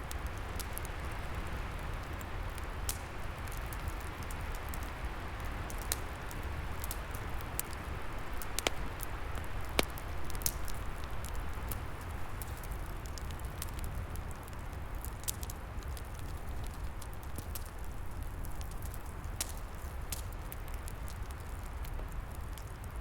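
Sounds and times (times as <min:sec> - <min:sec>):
log fire crackling and popping: 0:00.0 - 0:23.0.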